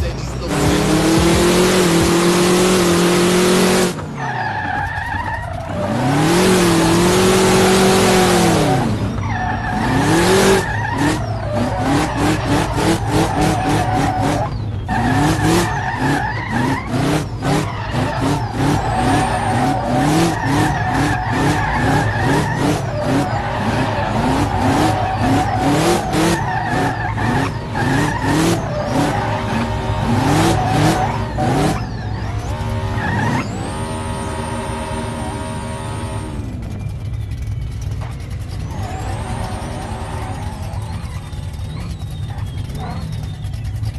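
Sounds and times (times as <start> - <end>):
vehicle engine revving: 0.0 - 4.2, 5.3 - 43.9
tyres squealing: 0.0 - 36.0, 38.4 - 43.8.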